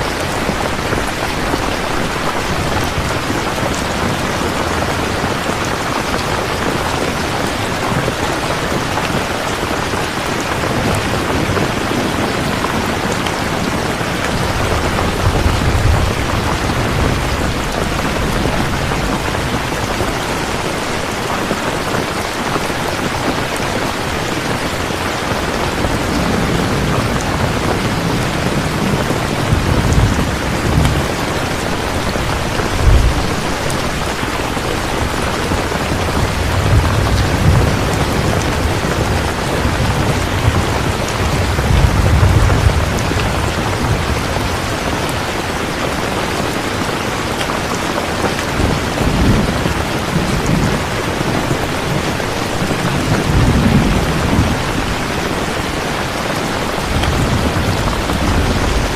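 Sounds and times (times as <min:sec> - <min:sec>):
distant thunder rumbles: 0:00.0 - 0:22.1, 0:25.2 - 0:45.0, 0:48.6 - 0:58.9
heavy rain falling: 0:00.0 - 0:58.9.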